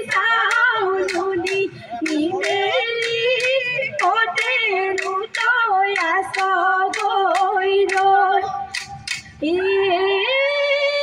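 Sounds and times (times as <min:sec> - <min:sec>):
woman singing: 0:00.0 - 0:08.7, 0:09.4 - 0:11.0
sharp percussion strikes: 0:00.0 - 0:09.4.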